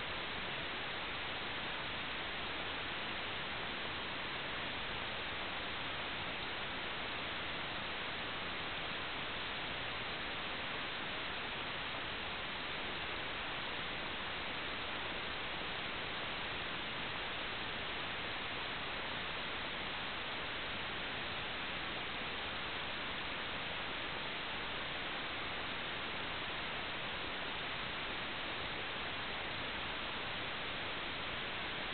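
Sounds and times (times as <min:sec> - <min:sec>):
static hiss: 0:00.0 - 0:31.9.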